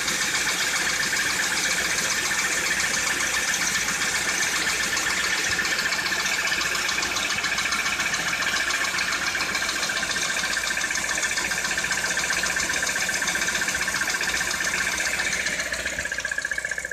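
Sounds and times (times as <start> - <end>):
car engine running: 0.0 - 16.9
engine knocking tick: 0.0 - 16.9.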